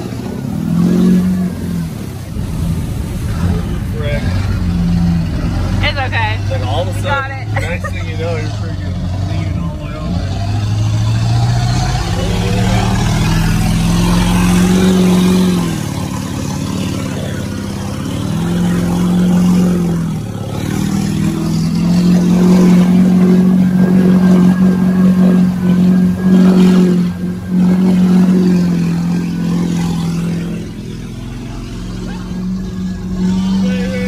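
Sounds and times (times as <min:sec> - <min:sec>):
truck engine revving: 0:00.0 - 0:34.0
water and mud spraying: 0:00.0 - 0:34.0.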